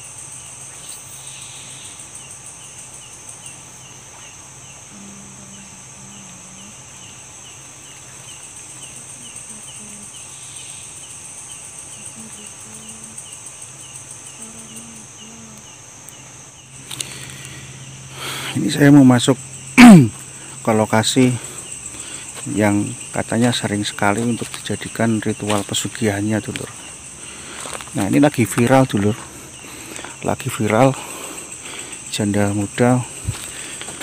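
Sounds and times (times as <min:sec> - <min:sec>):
crickets droning: 0:00.0 - 0:34.0
faint low hum: 0:00.0 - 0:34.0
insect chirping: 0:00.0 - 0:34.0.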